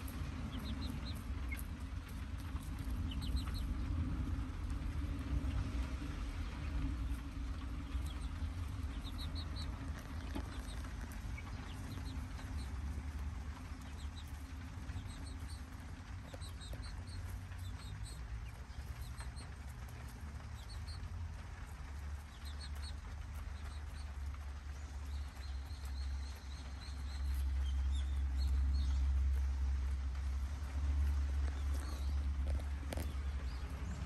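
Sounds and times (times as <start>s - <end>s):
chicks peeping: 0.0s - 34.0s
steady low rumble: 0.0s - 34.0s.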